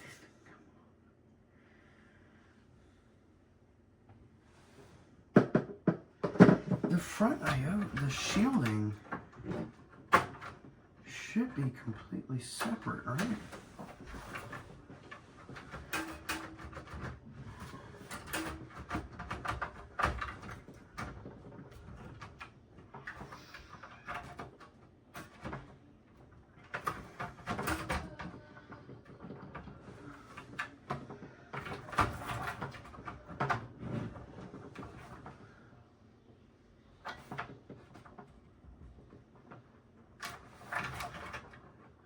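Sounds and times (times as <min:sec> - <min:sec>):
parts rattling inside computer case: 0:05.4 - 0:11.0, 0:12.5 - 0:35.7, 0:37.0 - 0:42.0.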